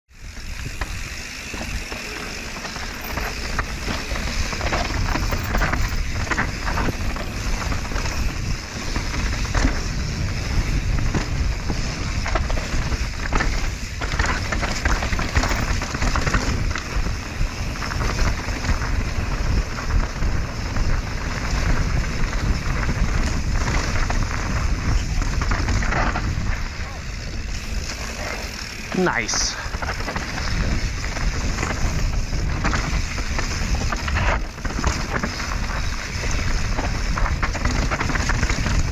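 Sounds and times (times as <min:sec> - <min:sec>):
bike knocking and rattling: 0:00.1 - 0:38.9
wind and tyres on trail: 0:00.1 - 0:38.9.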